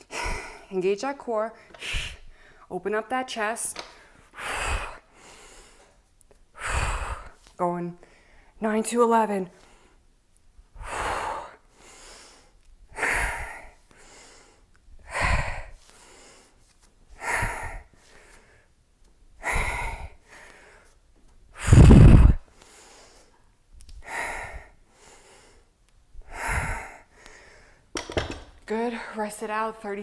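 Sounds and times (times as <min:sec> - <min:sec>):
woman breathing hard: 0:00.0 - 0:00.8, 0:01.6 - 0:02.7, 0:03.8 - 0:08.6, 0:10.7 - 0:18.8, 0:19.4 - 0:29.2.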